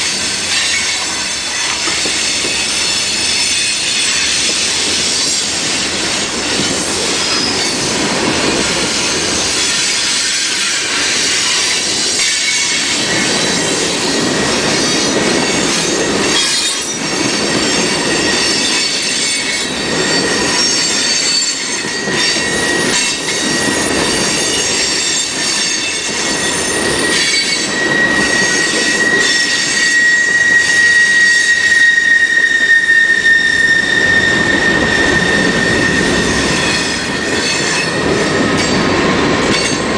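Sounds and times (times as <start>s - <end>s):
train cars rumbling past: 0.0s - 39.9s
train wheels squealing on rails: 0.0s - 39.9s.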